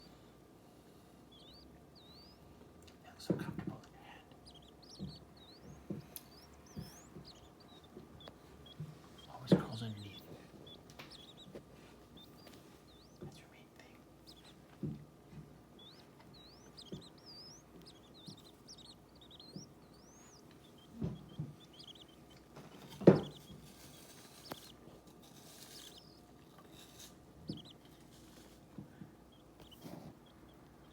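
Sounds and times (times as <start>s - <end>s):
quail chicks peeping: 0.0s - 30.9s.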